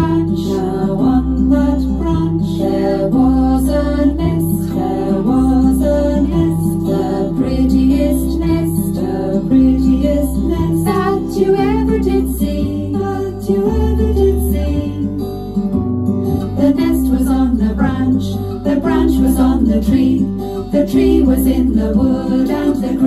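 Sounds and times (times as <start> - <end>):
woman singing: 0.0 - 15.5, 16.3 - 23.0
backing track with bass line: 0.0 - 23.0.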